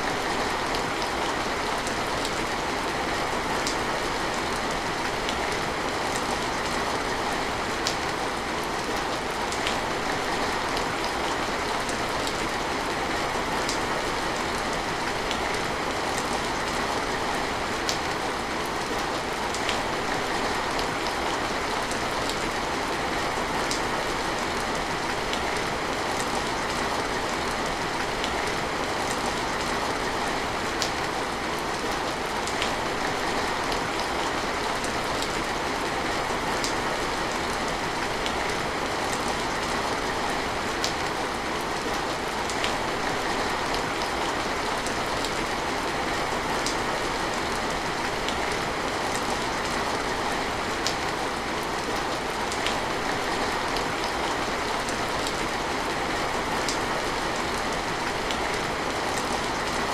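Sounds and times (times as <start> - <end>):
steady rain hiss: 0.0 - 59.9
raindrops ticking nearby: 0.2 - 59.9.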